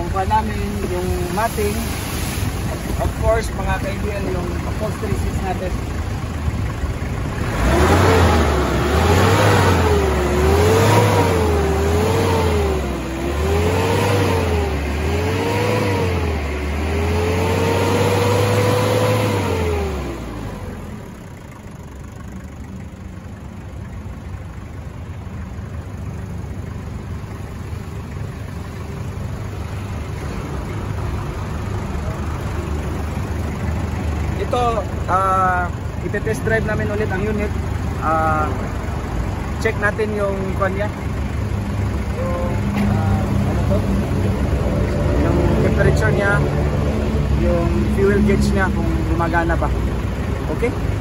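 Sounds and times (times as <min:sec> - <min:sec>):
diesel engine revving: 0:00.0 - 0:51.0.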